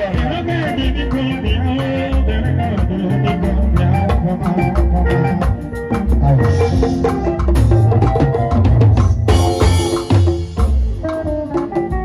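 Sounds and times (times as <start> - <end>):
bass line: 0.0 - 12.0
congas: 0.0 - 12.0
drum kit: 0.0 - 12.0
electric guitar notes: 0.0 - 12.0.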